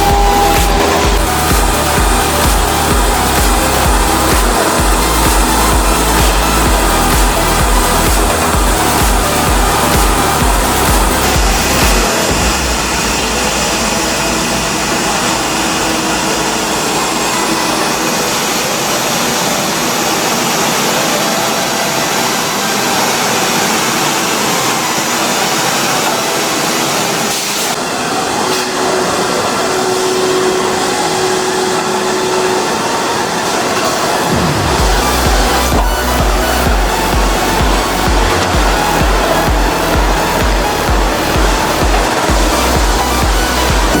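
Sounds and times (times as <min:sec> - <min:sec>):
loud whooshing machine noise: 0:00.0 - 0:44.0.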